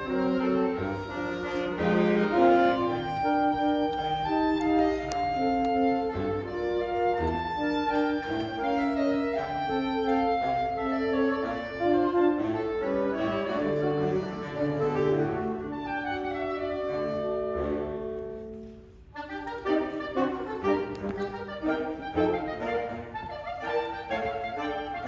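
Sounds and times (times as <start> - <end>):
saxophone quartet playing: 0.0 - 25.0.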